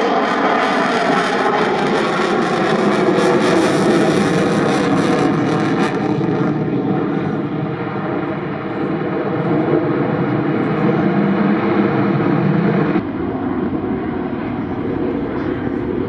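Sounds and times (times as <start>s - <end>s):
jet fighter flying: 0.0s - 16.0s.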